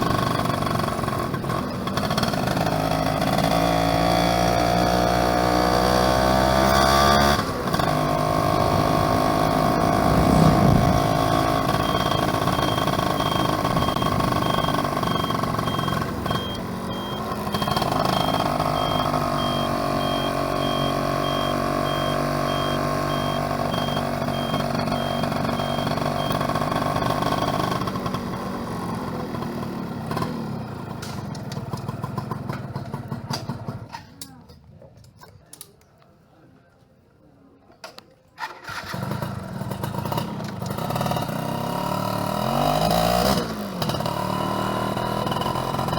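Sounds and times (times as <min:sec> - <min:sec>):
two-stroke motorcycle engine: 0:00.0 - 0:34.4, 0:38.4 - 0:45.9.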